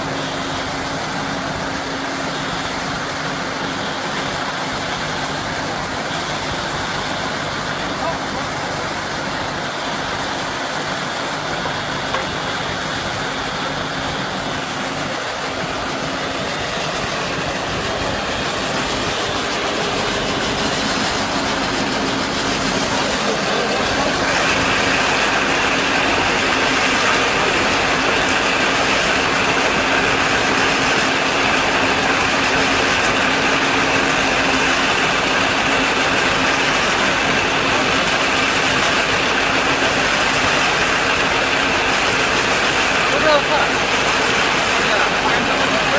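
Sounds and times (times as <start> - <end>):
baler machine running: 0.0 - 45.9
high steady whine: 0.0 - 45.9.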